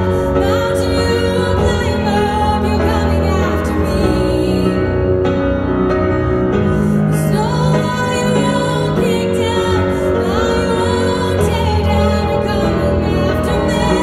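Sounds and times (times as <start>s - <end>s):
woman singing into a microphone: 0.0s - 5.6s, 7.0s - 14.0s
grand piano: 0.0s - 14.0s.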